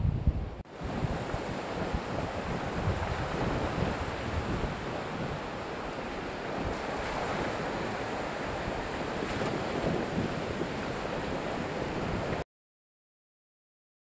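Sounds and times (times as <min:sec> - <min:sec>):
wind buffeting microphone: 0:00.0 - 0:12.4
ocean surf breaking: 0:00.1 - 0:12.4.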